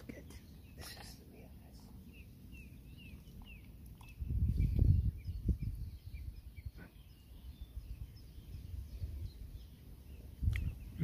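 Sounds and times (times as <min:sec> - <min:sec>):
small birds chirping: 0:00.0 - 0:11.0
wind buffeting microphone: 0:02.1 - 0:11.0.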